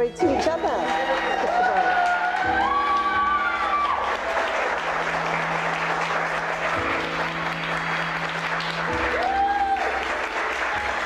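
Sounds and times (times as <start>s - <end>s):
music playing: 0.0s - 11.0s
audience applauding: 0.4s - 11.0s.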